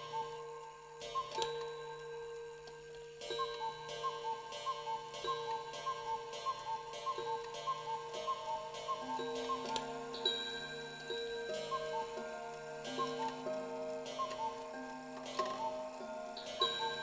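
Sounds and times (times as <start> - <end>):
clock ticking: 0.0 - 17.0
held steady tones: 0.0 - 17.0.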